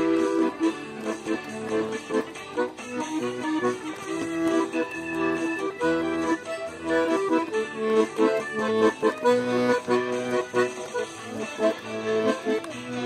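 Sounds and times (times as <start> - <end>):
accordion playing a tune: 0.0 - 13.0.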